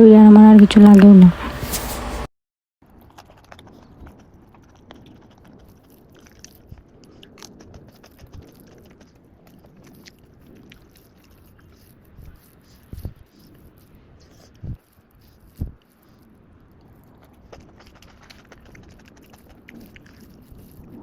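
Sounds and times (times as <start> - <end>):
person chewing and crunching: 2.8 - 21.0.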